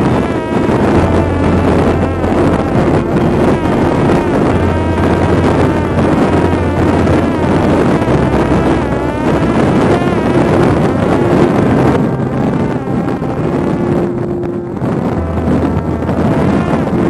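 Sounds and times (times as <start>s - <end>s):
drone motor and propeller whine: 0.0s - 17.0s
wind buffeting microphone: 0.0s - 17.0s.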